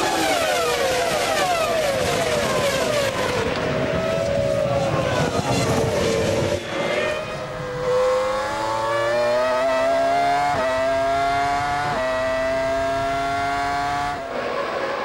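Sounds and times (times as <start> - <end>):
distant track noise: 0.0 - 15.0
racing car engine at full throttle: 0.0 - 15.0.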